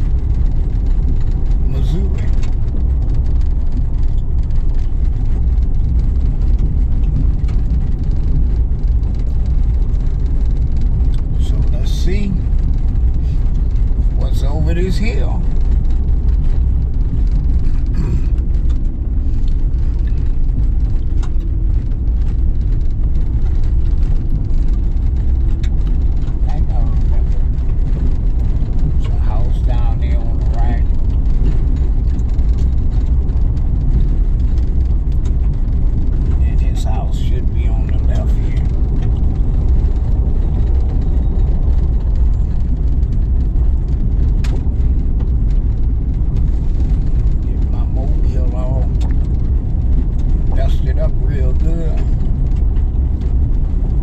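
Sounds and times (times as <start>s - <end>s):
vehicle engine and tyre rumble: 0.0s - 54.0s.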